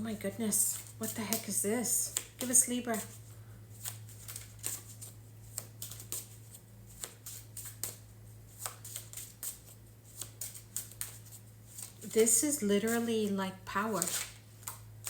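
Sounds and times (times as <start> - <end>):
low electrical hum: 0.0 - 15.0
cards being shuffled: 0.5 - 14.9.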